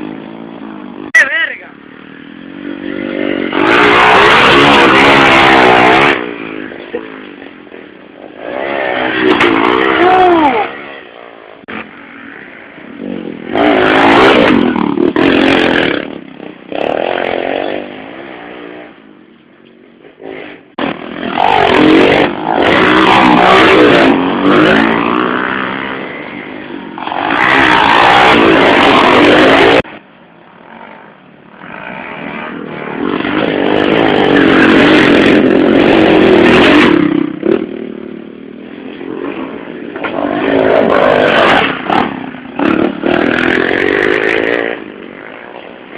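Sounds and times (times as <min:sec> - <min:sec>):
motorcycles revving past: 0:00.0 - 0:01.1, 0:01.8 - 0:45.9.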